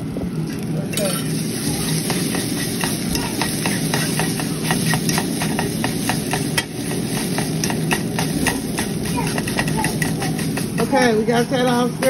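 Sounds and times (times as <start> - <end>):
egg sizzling in oil: 0.0 - 12.0
fork scraping a metal pan: 1.0 - 12.0.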